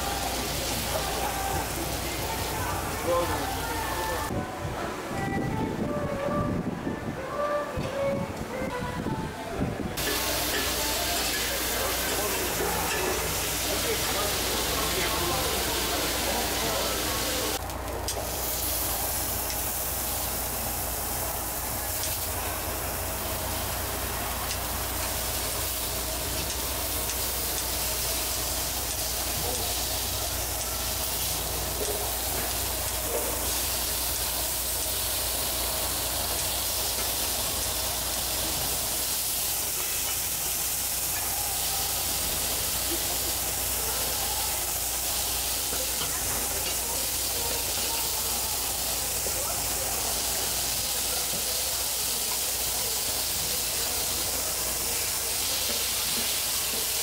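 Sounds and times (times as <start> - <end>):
meat sizzling on a griddle: 0.0 - 4.2, 10.0 - 57.0.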